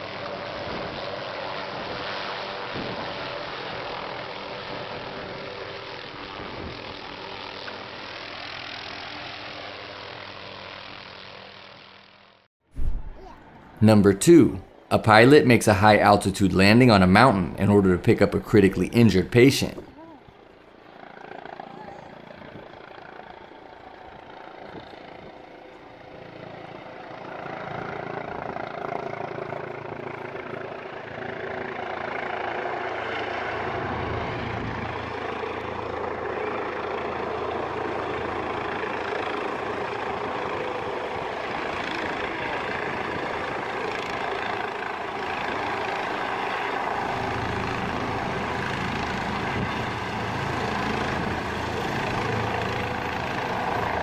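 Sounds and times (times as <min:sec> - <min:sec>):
helicopter rotor and engine: 0:00.0 - 0:12.5, 0:13.1 - 0:54.0.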